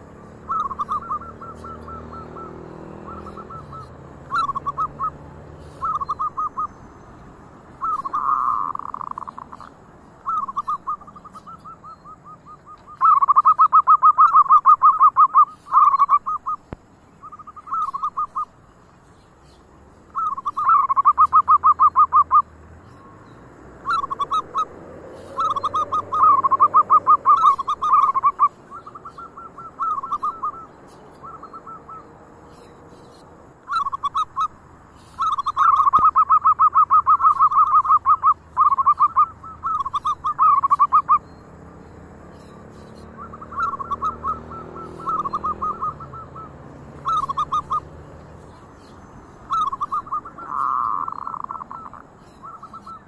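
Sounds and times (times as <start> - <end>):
doves cooing: 0.0 - 18.7, 20.1 - 53.0.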